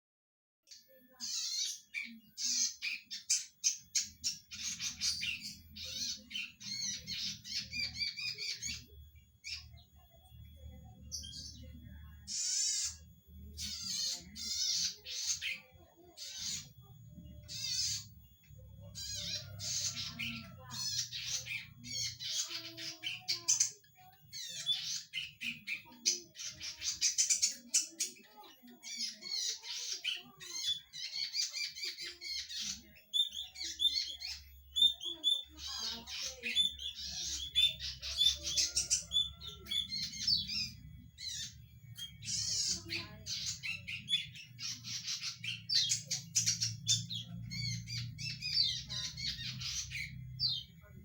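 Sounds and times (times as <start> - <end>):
bird singing high chirps: 0.7 - 51.0.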